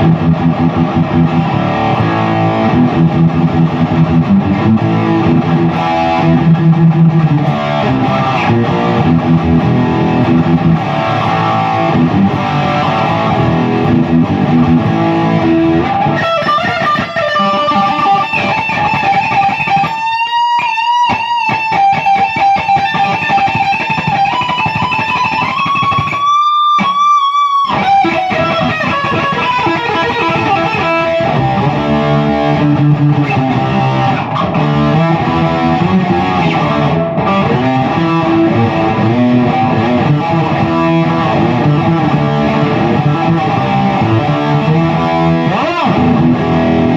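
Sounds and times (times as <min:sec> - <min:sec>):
distorted electric guitar: 0:00.0 - 0:46.9.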